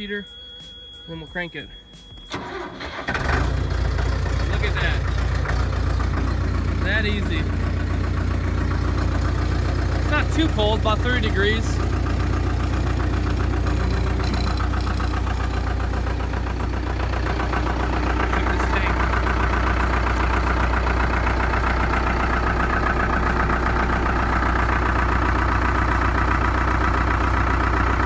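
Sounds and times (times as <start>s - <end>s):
diesel engine idling: 2.3s - 28.0s.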